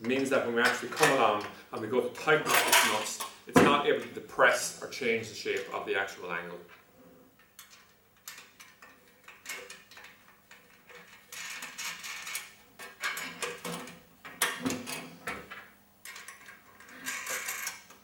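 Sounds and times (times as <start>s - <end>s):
bolts scraping and rattling: 0.0s - 4.1s, 6.7s - 18.0s.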